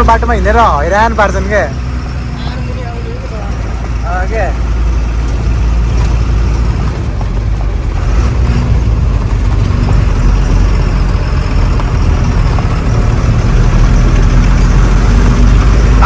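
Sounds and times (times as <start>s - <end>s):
road noise: 0.0s - 16.0s
truck engine rumbling: 0.0s - 16.0s.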